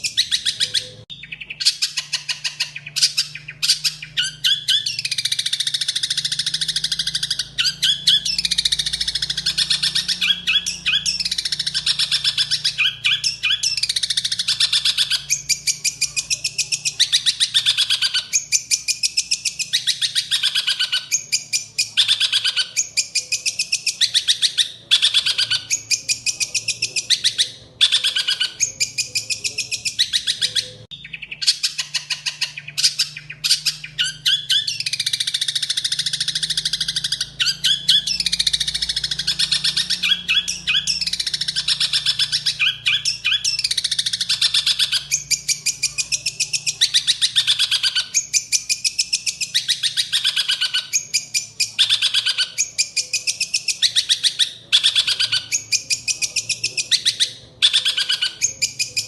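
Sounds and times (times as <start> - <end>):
songbird chattering song: 0.0 - 59.0.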